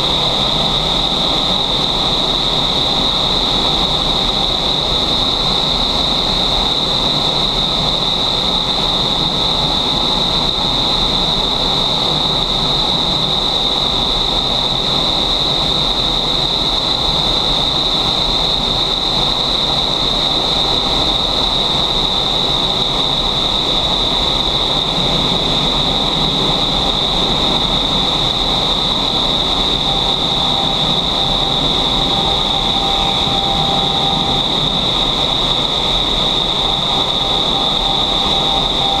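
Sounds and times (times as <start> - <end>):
high-pitched whine: 0.0 - 39.0
rush of high-speed air: 0.0 - 39.0.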